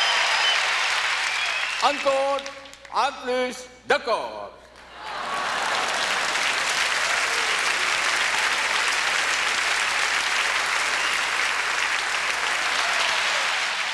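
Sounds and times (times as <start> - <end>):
audience applauding: 0.0 - 2.9, 4.8 - 13.9.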